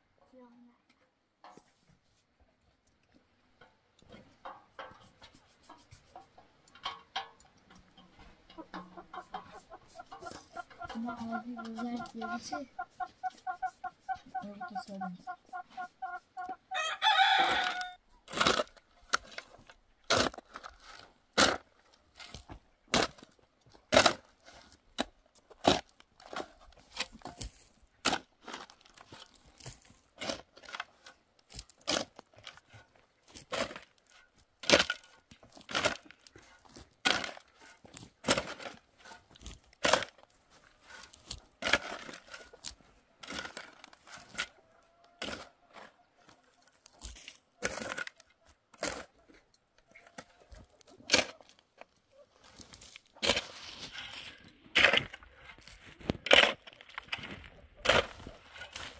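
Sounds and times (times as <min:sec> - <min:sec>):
shovel digging stony soil: 0:08.6 - 0:44.6, 0:45.2 - 0:58.9.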